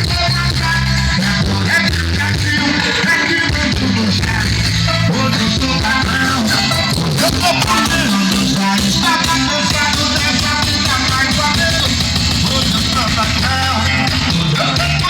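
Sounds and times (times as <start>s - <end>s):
rock music on car stereo: 0.0s - 15.0s.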